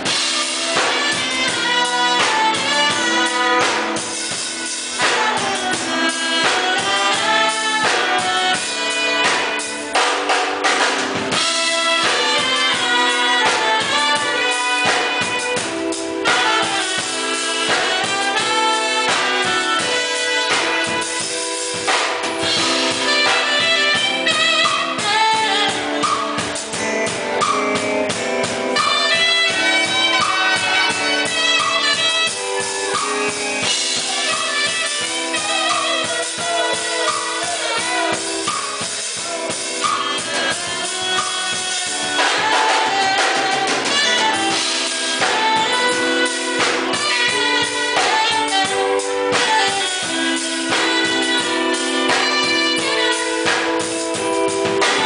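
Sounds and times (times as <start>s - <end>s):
drum kit: 0.0s - 55.0s
keyboard: 0.0s - 55.0s
saxophone: 0.0s - 55.0s
trombone: 0.0s - 55.0s
trumpet: 0.0s - 55.0s.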